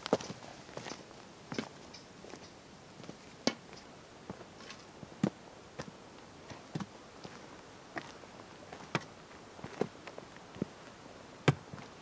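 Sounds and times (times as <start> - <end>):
footsteps on stony path: 0.0 - 12.0.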